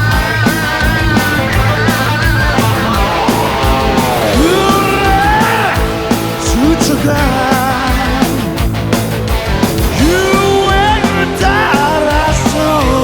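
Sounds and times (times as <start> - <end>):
sliding electric guitar lead: 0.0 - 12.5
rock band playing: 0.0 - 13.0.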